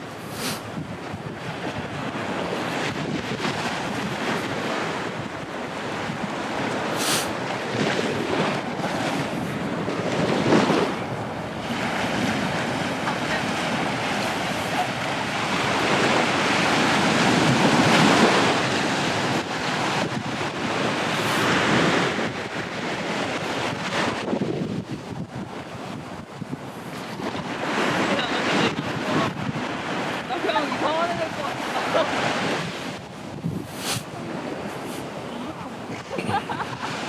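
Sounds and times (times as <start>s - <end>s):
sea waves breaking on beach: 0.0s - 37.0s
wind rumbling on microphone: 0.0s - 37.0s.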